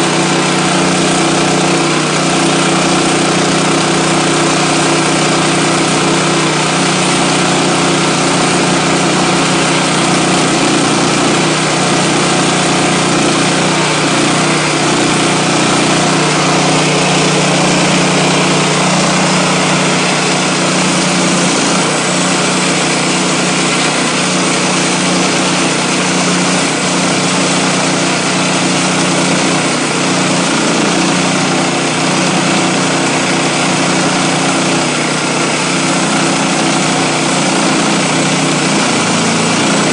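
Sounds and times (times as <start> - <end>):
sawmill gasoline engine running: 0.0 - 39.9.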